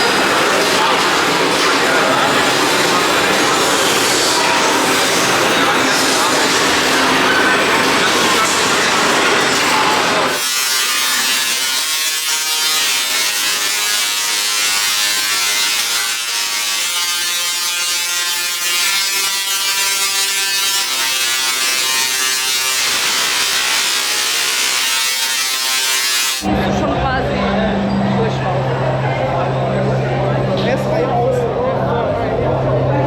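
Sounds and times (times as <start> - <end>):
high-pitched electric whine: 0.0 - 26.7.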